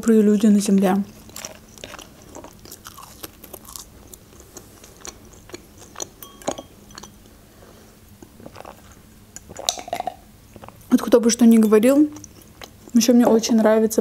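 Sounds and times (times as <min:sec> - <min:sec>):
chewing french fries: 0:00.0 - 0:07.0, 0:08.2 - 0:11.0, 0:12.0 - 0:13.5.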